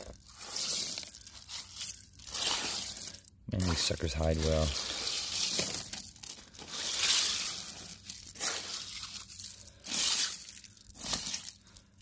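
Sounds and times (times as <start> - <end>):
wet gravel crunching on a screen: 0.0 - 12.0.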